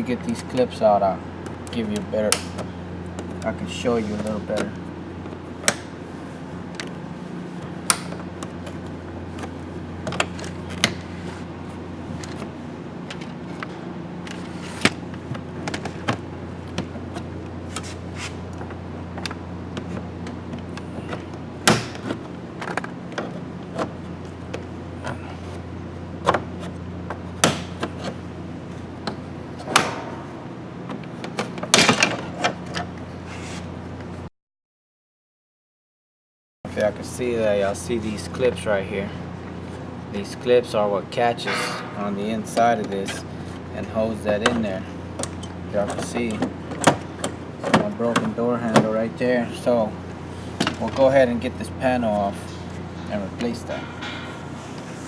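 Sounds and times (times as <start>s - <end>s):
steady low hum: 0.0s - 34.3s, 36.7s - 55.0s.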